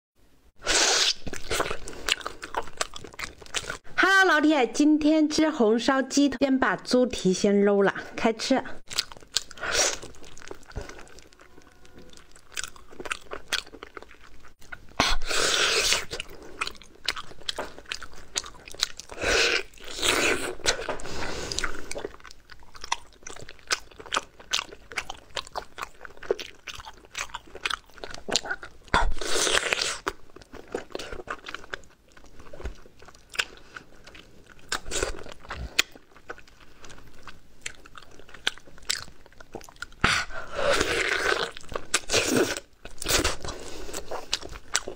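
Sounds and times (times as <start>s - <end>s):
person chewing food: 0.8s - 3.9s, 8.8s - 44.9s.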